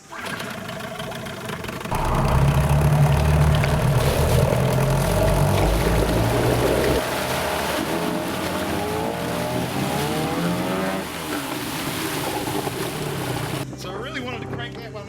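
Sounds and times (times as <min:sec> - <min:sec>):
outboard motor running: 0:00.0 - 0:13.7.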